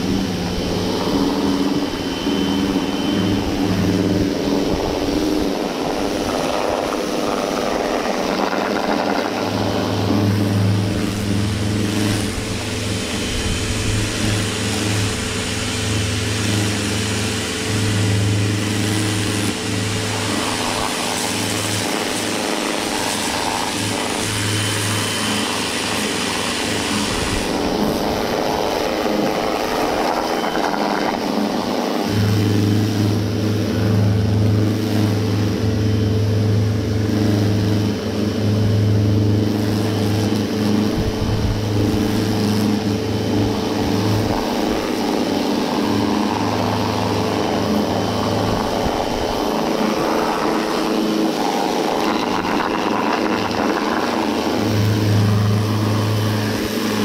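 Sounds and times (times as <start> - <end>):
pump motor hum: 0.0 - 57.0.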